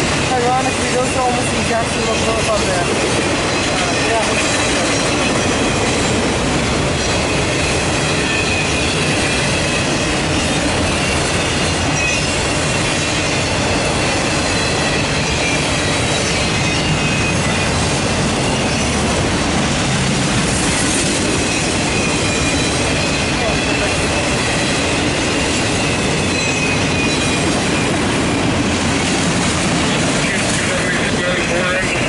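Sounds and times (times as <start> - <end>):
freight train wheels rumbling on rails: 0.0 - 32.0.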